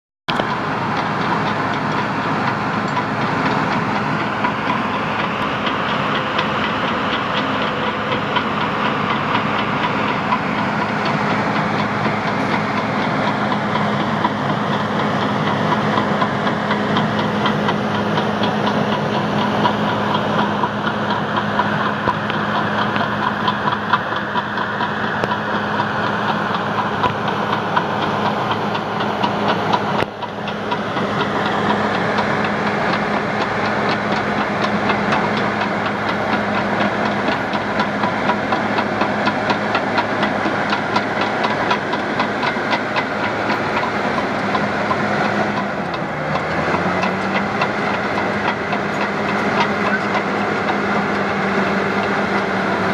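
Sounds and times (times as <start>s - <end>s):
diesel engine running: 0.3s - 52.9s.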